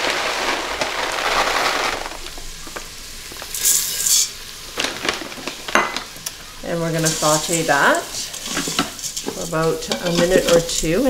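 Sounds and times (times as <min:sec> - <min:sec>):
couscous poured and sizzling: 0:00.0 - 0:11.0.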